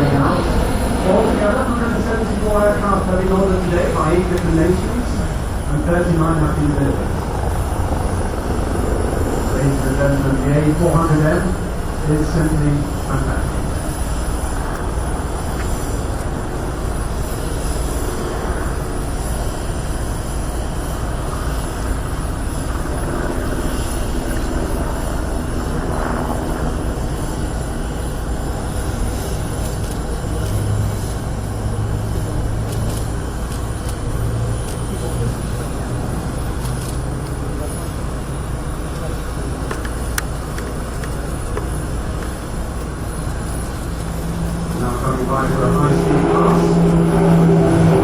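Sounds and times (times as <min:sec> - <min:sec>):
turboprop engines droning: 0:00.0 - 0:48.0.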